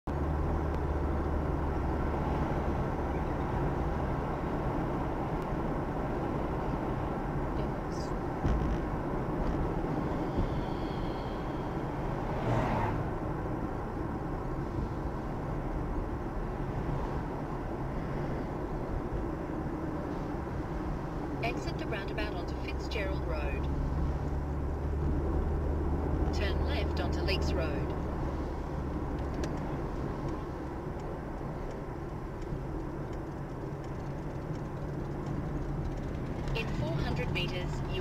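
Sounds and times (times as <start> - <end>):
car cabin road rumble: 0.1 - 38.0.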